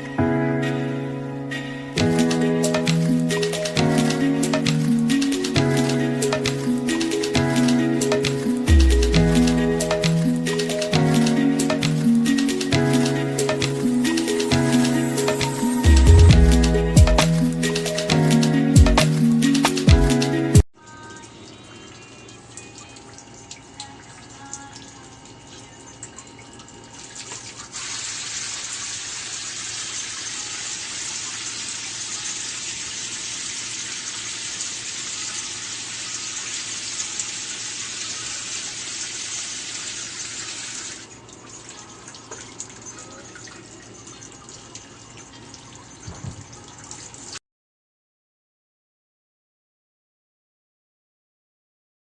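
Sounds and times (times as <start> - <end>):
water running from a tap: 2.0 - 18.4, 20.9 - 47.4.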